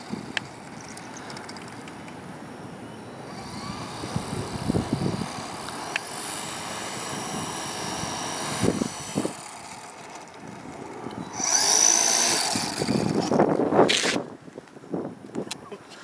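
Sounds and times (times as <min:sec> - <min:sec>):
electric model plane whining: 0:00.0 - 0:14.2.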